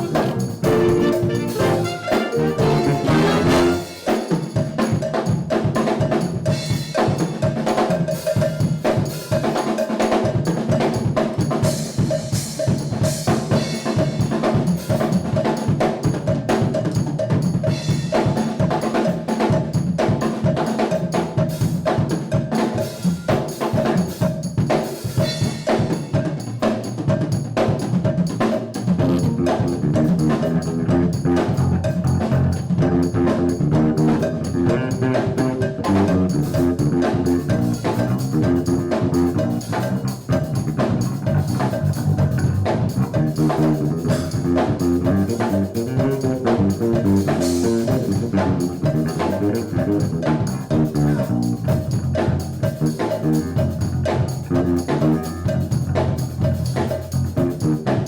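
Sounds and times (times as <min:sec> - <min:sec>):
jazz band with drums and brass: 0:00.0 - 0:58.0.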